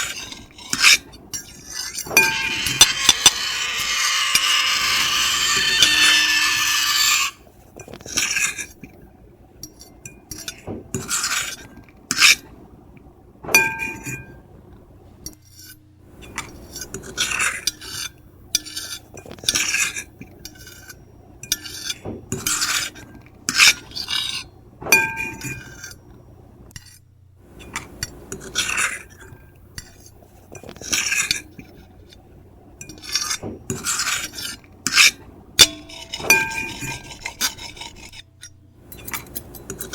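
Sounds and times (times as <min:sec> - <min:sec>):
fork and knife scraping plate: 0:00.0 - 0:08.8, 0:10.4 - 0:12.4, 0:15.4 - 0:26.0, 0:27.6 - 0:32.0, 0:32.8 - 0:39.9.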